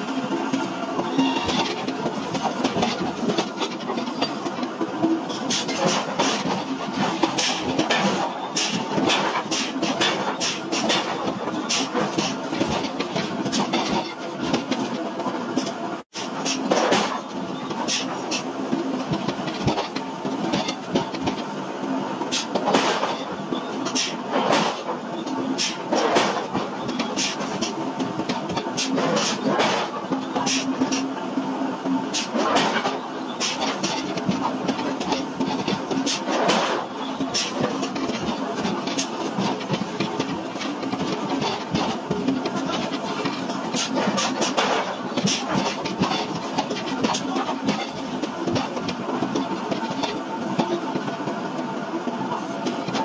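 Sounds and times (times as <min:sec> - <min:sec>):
heavy forging machinery running: 0:00.0 - 0:53.0.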